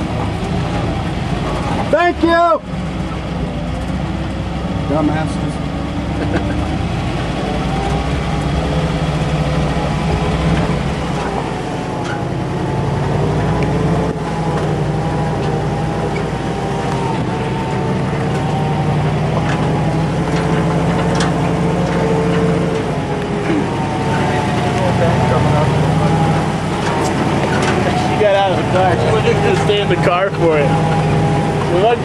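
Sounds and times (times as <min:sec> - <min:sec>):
pickup truck engine running: 0:00.0 - 0:32.0.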